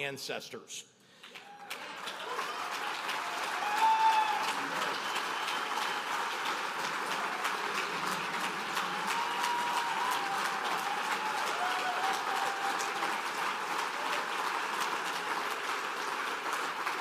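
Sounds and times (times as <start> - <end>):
audience applauding and cheering: 1.2 - 17.0.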